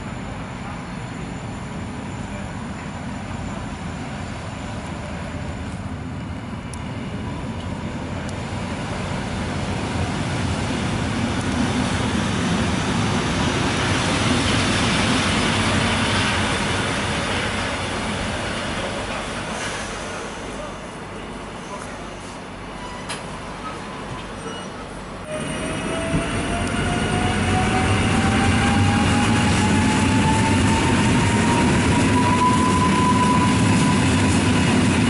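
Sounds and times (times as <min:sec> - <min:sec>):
electric train arriving: 0:00.0 - 0:35.0.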